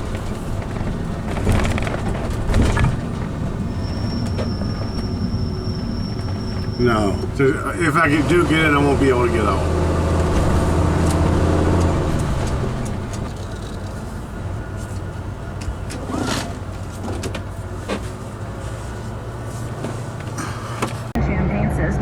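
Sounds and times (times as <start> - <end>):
knocks and rattles: 0.0 - 7.4, 9.5 - 21.2
motorhome engine drone: 0.0 - 22.0.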